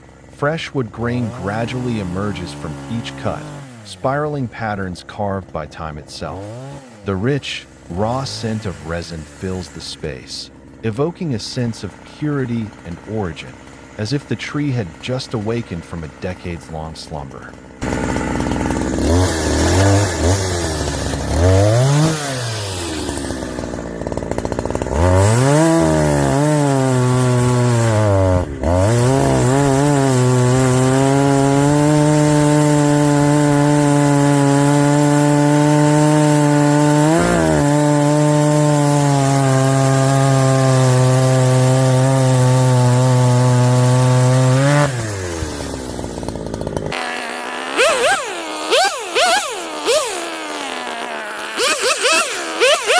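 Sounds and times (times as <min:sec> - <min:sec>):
chainsaw cutting log: 0:00.0 - 0:52.9.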